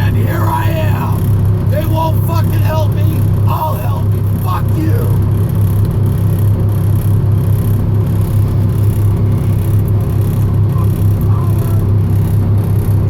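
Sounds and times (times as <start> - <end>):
truck engine low drone: 0.0 - 13.0.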